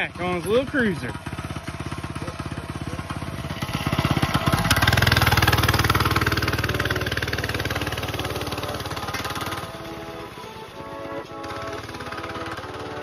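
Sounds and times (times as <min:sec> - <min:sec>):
mini bike engine pulling away: 0:00.0 - 0:13.0.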